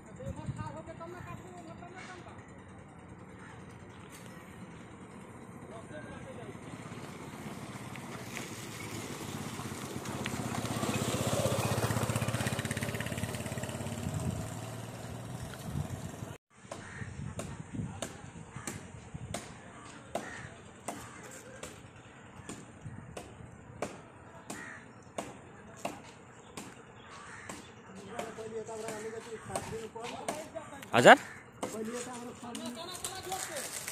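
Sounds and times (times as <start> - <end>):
motorcycle passing: 0.0 - 16.4, 19.8 - 33.9.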